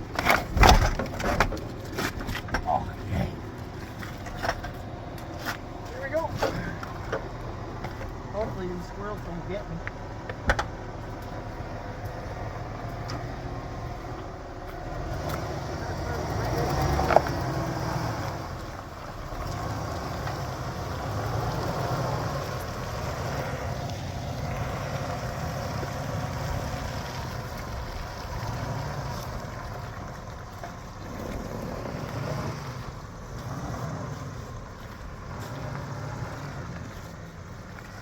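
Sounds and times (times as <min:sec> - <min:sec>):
pickup truck engine running: 0:00.0 - 0:38.0.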